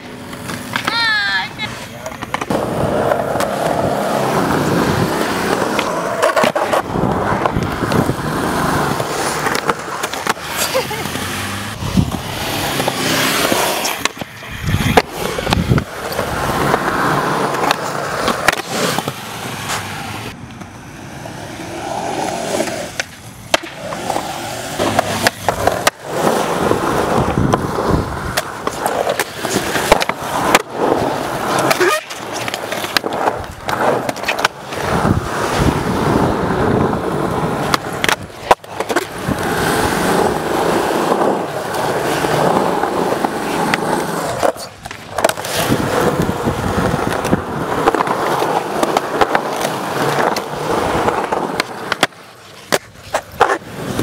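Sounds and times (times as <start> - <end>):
skateboard clacks: 0.0 - 54.0
skateboard wheels rolling on concrete: 0.0 - 54.0.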